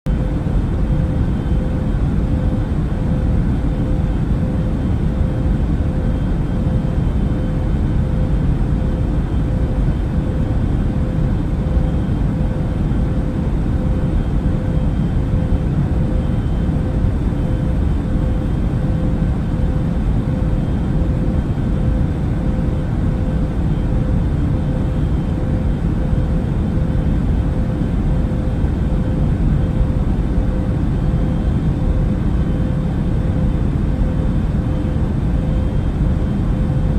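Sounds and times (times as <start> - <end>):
airplane engine and airflow rumble: 0.1 - 36.9
faint constant hum: 0.1 - 36.9.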